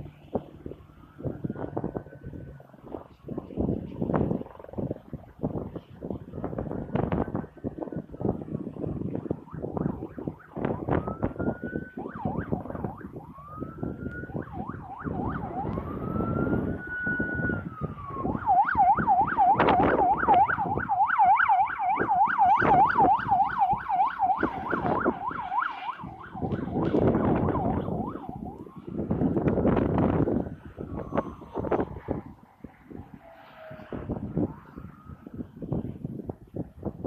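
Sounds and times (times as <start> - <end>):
emergency vehicle siren: 0.0 - 37.0
rumbling traffic or wind: 0.0 - 37.0.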